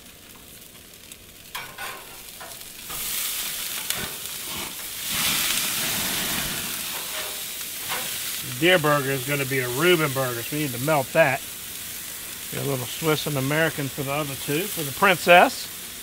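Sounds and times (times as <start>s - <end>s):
burgers sizzling on a grill: 0.0s - 16.0s
flames flaring: 0.0s - 16.0s.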